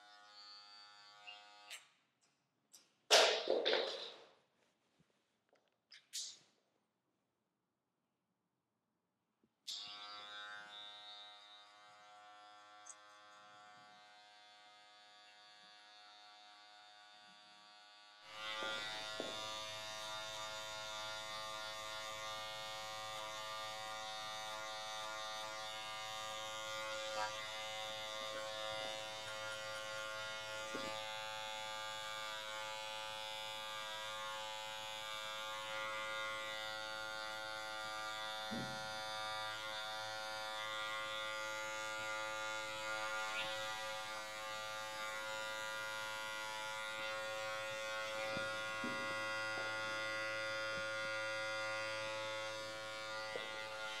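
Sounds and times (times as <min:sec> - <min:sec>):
hair clipper buzzing: 0:00.0 - 0:02.0, 0:09.7 - 0:54.0.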